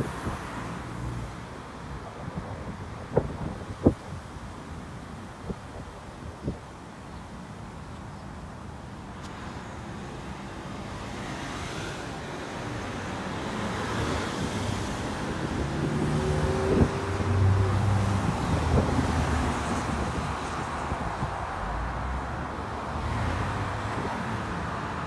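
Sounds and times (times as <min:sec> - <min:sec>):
vehicle engine and tyre noise: 0:00.0 - 0:25.0.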